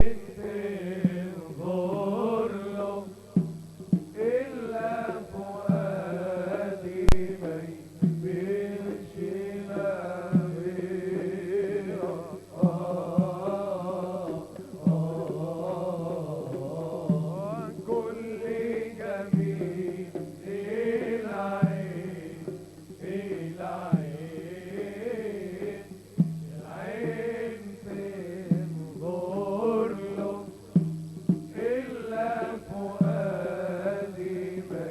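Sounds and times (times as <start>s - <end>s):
man singing with music: 0.0s - 34.9s.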